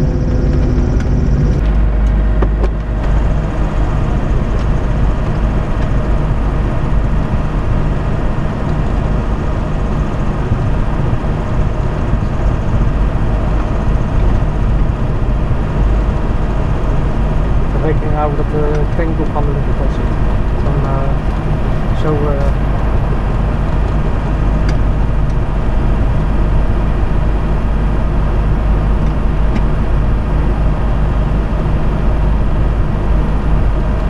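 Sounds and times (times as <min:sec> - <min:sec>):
light aircraft piston engine: 0:00.0 - 0:34.0.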